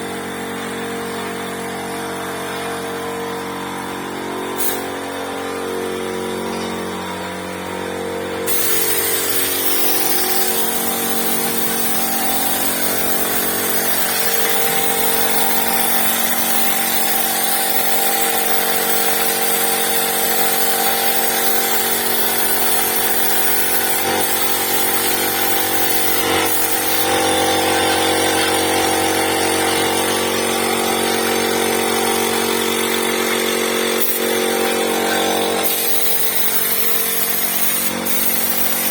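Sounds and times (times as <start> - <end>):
power tool hiss: 3.8 - 38.9.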